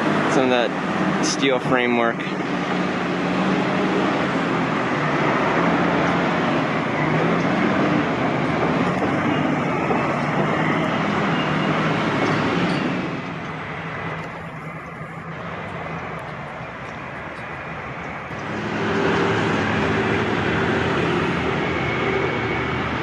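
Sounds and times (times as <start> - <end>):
large vehicle engine and road noise: 0.0 - 23.0.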